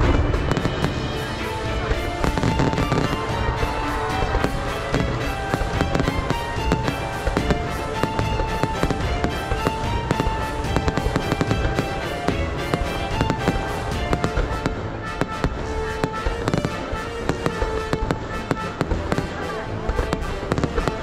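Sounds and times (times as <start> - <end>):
fireworks bangs and crackles: 0.0 - 21.0
melodic music: 0.0 - 21.0.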